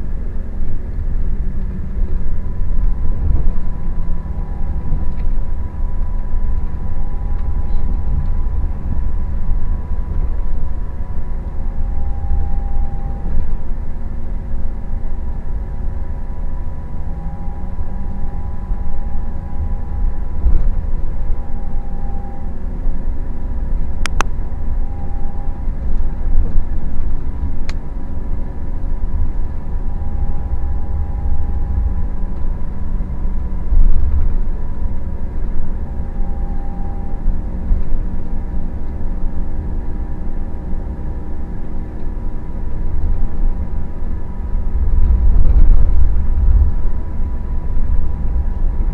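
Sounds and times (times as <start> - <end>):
coach engine rumbling: 0.0 - 48.9
faint steady whine: 0.0 - 48.9.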